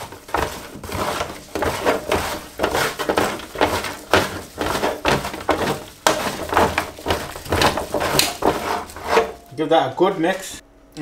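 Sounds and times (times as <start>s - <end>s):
hands rubbing chicken in metal tray: 0.0s - 9.4s.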